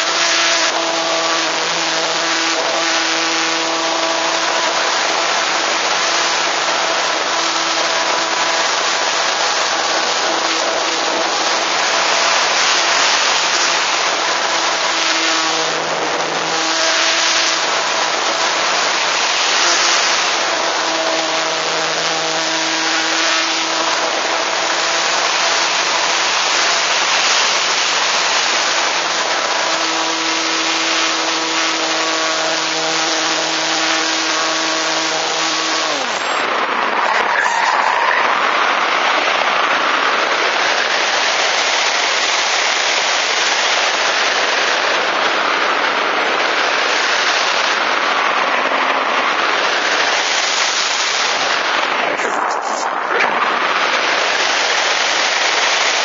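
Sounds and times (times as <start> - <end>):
electric motor whine: 0.0 - 56.0.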